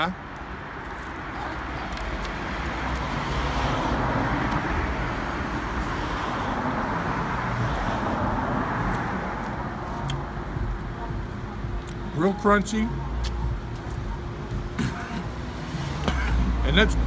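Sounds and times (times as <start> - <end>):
passing vehicle engine and tyres: 0.0 - 17.0.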